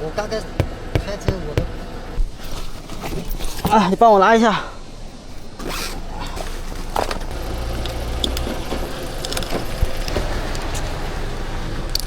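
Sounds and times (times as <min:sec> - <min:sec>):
car engine rumbling: 0:00.0 - 0:04.2, 0:04.8 - 0:12.0.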